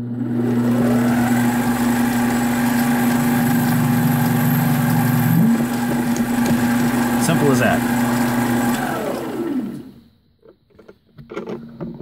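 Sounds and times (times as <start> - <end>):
lathe running: 0.0 - 10.0.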